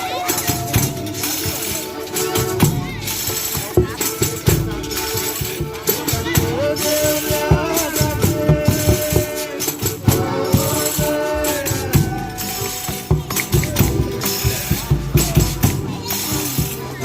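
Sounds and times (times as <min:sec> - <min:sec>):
drum beats: 0:00.0 - 0:17.0
tambourine jingling: 0:00.0 - 0:17.0.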